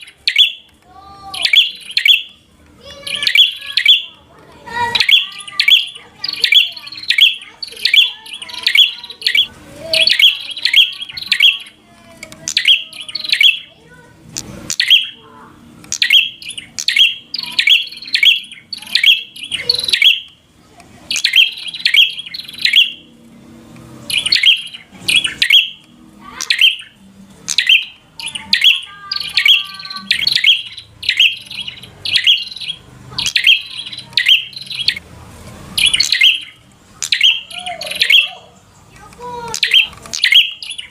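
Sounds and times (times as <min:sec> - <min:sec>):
bird chattering call notes: 0:00.0 - 0:15.2, 0:15.8 - 0:23.1, 0:24.1 - 0:40.9.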